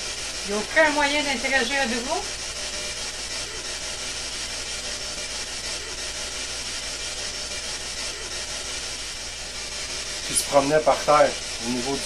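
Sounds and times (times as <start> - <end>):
static hiss: 0.0 - 12.0.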